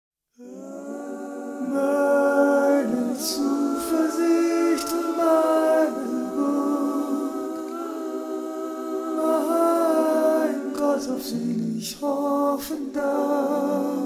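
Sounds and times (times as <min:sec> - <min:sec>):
a cappella voices singing: 0:00.4 - 0:14.0
hissed consonants: 0:00.4 - 0:14.0.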